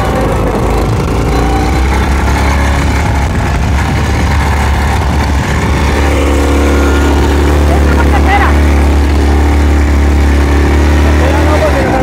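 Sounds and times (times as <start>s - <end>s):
small engine running under load: 0.0s - 12.0s.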